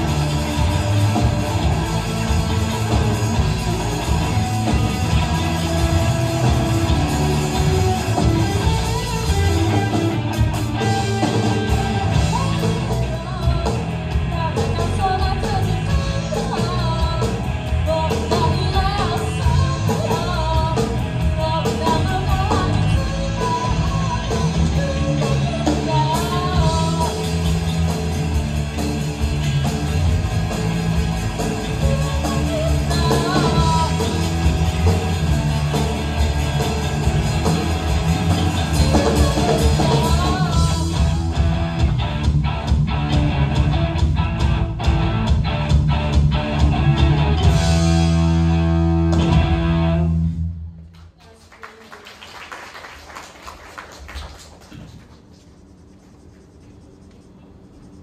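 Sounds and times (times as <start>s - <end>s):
drum kit: 0.0s - 50.4s
electric guitars: 0.0s - 50.8s.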